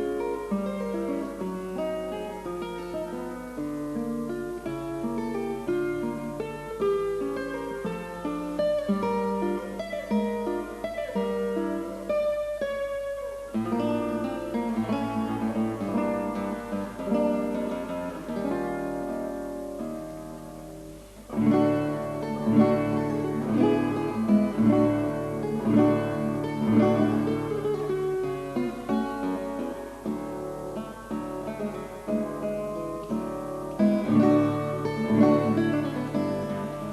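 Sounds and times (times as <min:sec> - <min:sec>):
acoustic guitar music: 0:00.0 - 0:36.9.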